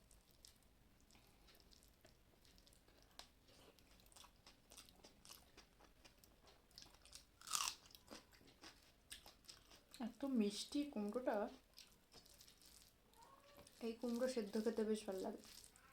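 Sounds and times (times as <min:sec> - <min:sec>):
person chewing and crunching food: 0:00.0 - 0:10.2, 0:11.2 - 0:15.9.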